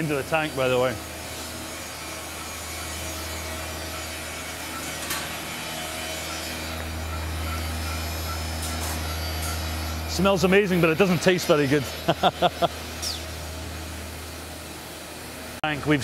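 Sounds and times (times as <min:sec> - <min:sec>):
electric pump humming: 0:00.0 - 0:16.0.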